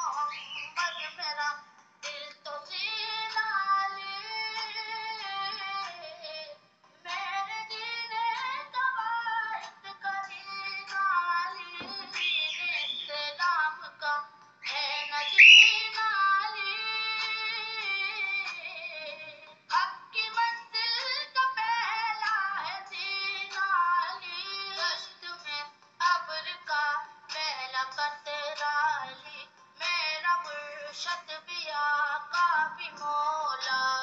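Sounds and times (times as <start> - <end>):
song with high female voice: 0.0 - 34.0.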